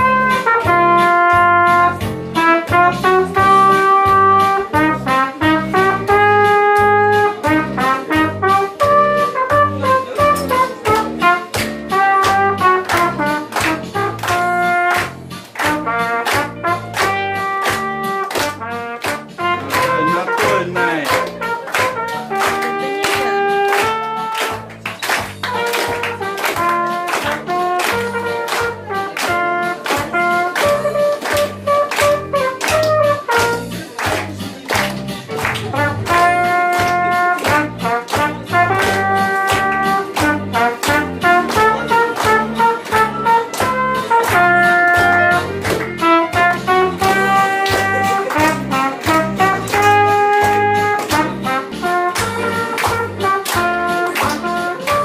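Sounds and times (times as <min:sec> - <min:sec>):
accompaniment with steady beat: 0:00.0 - 0:55.0
trumpet melody: 0:00.0 - 0:55.0.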